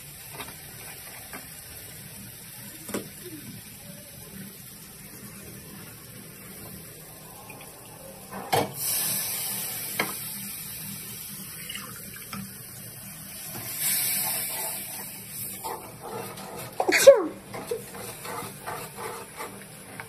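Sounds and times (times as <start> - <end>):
paste sizzling in oil: 0.0 - 20.0.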